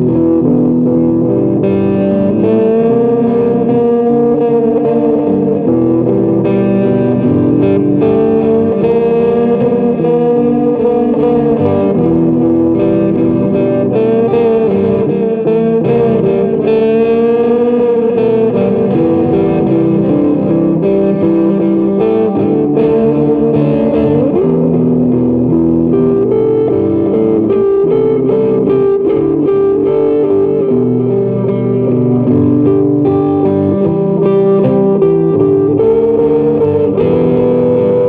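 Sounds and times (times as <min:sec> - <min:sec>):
electric guitar with string bends: 0:00.0 - 0:38.0.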